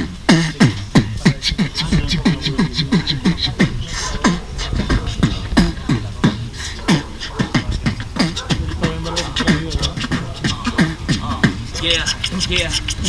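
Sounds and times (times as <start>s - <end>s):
human beatboxing: 0.0s - 13.0s.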